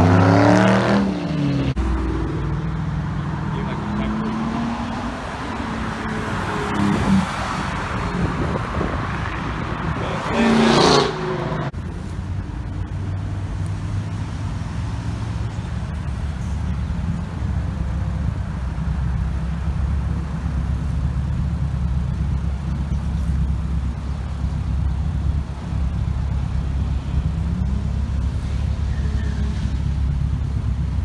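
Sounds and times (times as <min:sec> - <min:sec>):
car rushing past: 0:00.0 - 0:31.0
low engine sound: 0:00.0 - 0:31.0.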